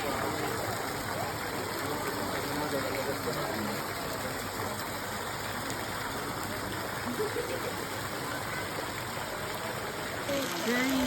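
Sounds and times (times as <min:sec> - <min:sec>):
faint voices: 0:00.0 - 0:11.0
flowing water rushing: 0:00.0 - 0:11.0.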